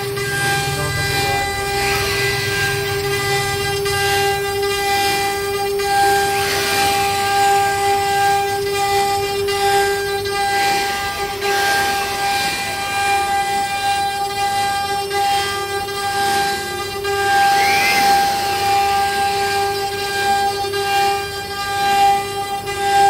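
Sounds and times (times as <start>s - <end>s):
router bit cutting wood: 0.0s - 23.0s
router spindle high whine: 0.0s - 23.0s.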